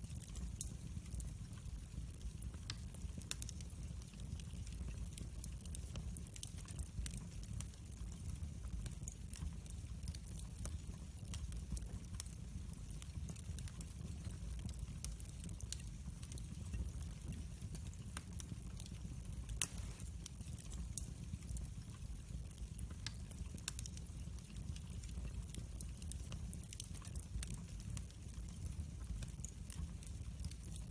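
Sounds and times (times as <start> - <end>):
wood fire crackles and pops: 0.0 - 30.9
fire flames rumbling: 0.1 - 30.9.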